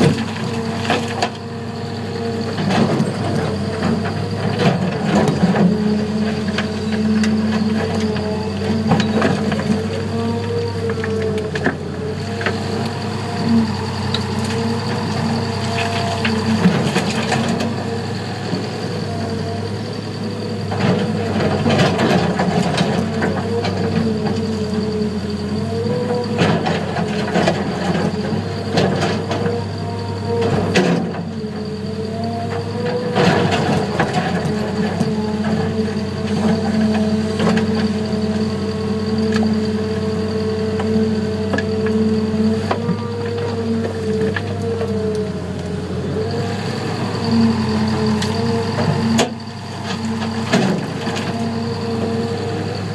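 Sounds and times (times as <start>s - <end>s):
heavy diesel engines running: 0.0s - 52.9s.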